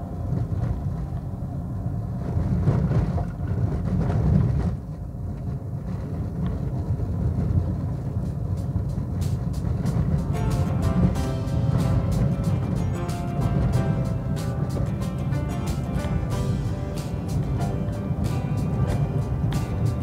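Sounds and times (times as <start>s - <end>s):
car rumbling on dirt road: 0.0s - 20.0s.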